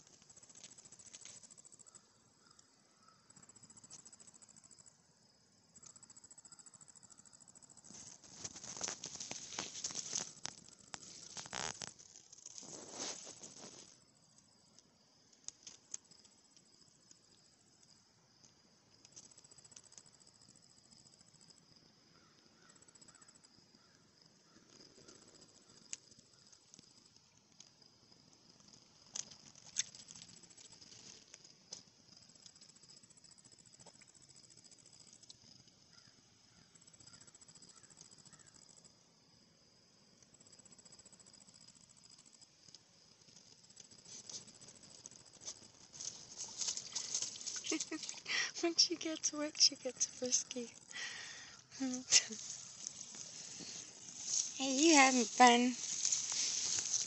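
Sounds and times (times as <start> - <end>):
insect chirring: 0.0 - 57.0.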